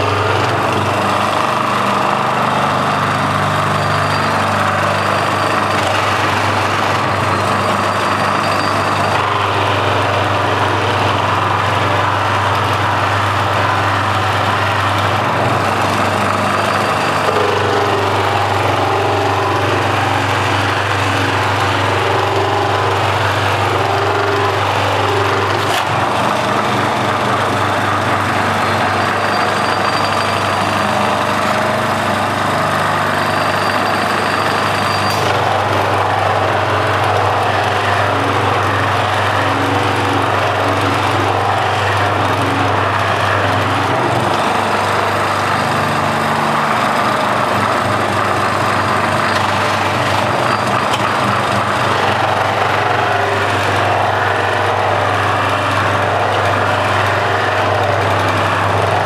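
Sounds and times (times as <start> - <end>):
buffing machine motor humming: 0.0 - 59.0.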